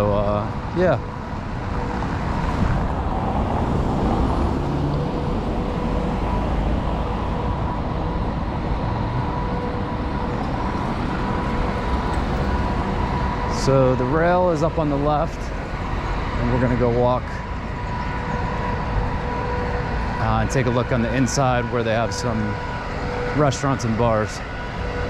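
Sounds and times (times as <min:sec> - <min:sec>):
cars passing on street: 0:00.0 - 0:25.0.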